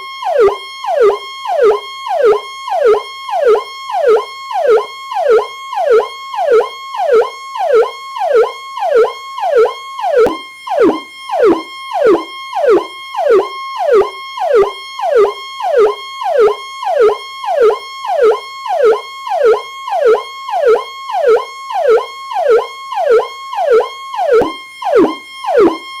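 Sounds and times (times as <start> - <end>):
electronic police siren: 0.0 - 26.0.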